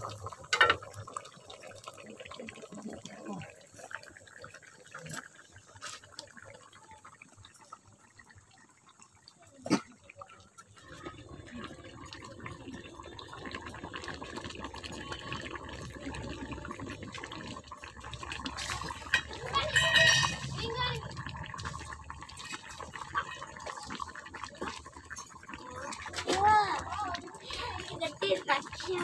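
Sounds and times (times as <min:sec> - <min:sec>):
curry bubbling in a pan: 0:00.0 - 0:29.0.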